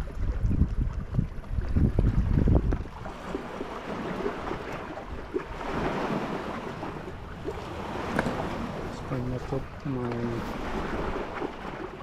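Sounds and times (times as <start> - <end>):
water lapping: 0.0 - 12.0
wind buffeting microphone: 0.0 - 12.0.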